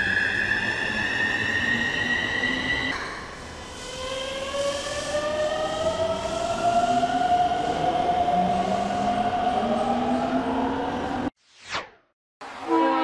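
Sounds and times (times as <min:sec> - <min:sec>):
subway train motors whining: 0:00.0 - 0:11.3.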